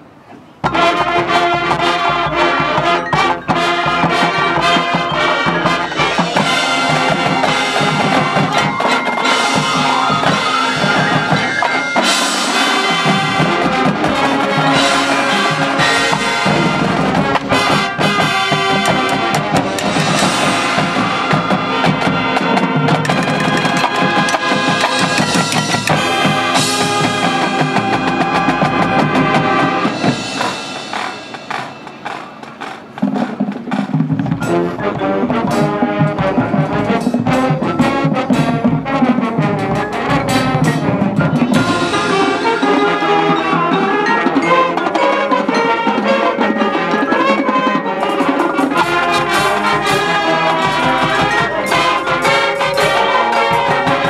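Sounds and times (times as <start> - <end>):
drumline: 0.0 - 54.0
marching band playing: 0.0 - 54.0
brass melody: 0.6 - 54.0
mallet percussion: 0.6 - 54.0.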